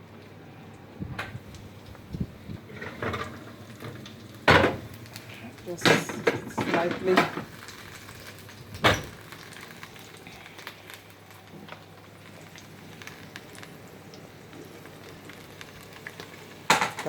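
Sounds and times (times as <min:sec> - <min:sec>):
stew simmering and bubbling: 0:00.0 - 0:17.0.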